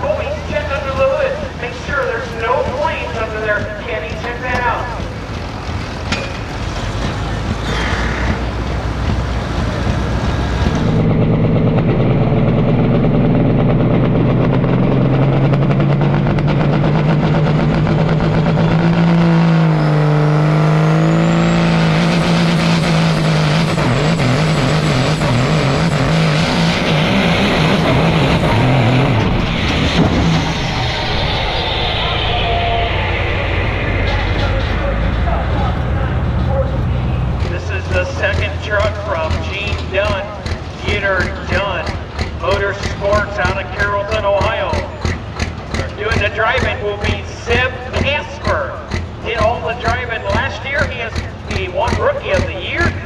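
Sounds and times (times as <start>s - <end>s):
diesel truck engine running hard: 0.0s - 53.0s.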